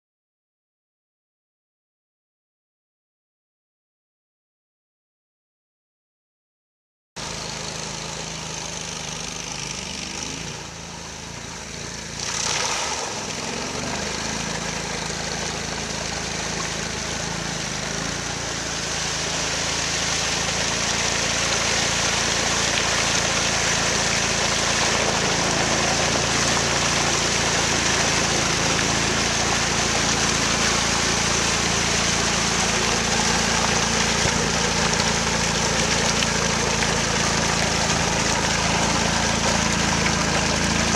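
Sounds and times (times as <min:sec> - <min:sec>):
engine running with rushing noise: 0:07.2 - 0:40.9.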